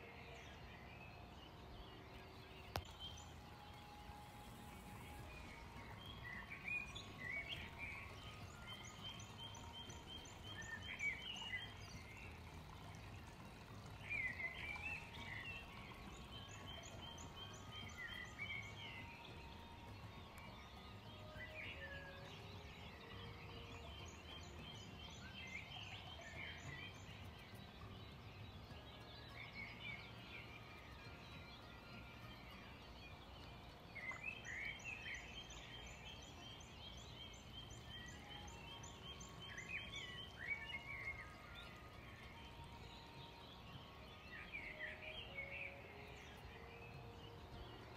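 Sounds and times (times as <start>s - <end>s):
small birds chirping and trilling: 0.0s - 47.9s.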